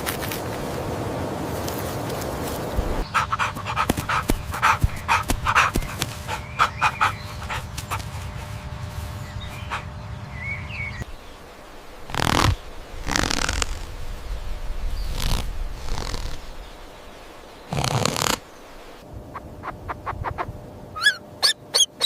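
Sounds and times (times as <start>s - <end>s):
faint steady hum: 0.5s - 22.0s.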